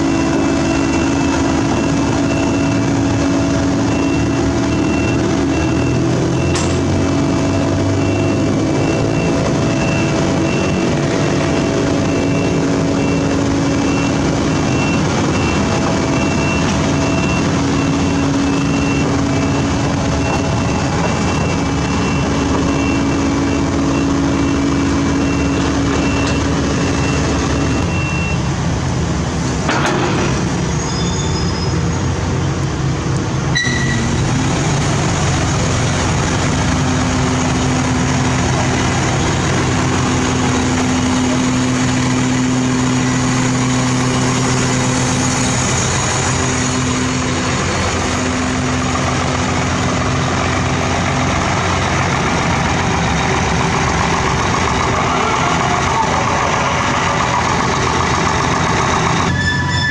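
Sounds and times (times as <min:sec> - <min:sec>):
heavy diesel trucks passing: 0:00.0 - 0:59.9.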